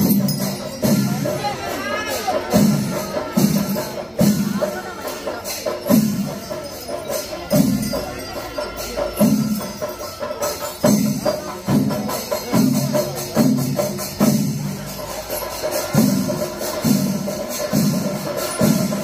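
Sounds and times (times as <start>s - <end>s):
cymbals clattering: 0.0s - 19.0s
loud drums: 0.0s - 19.0s.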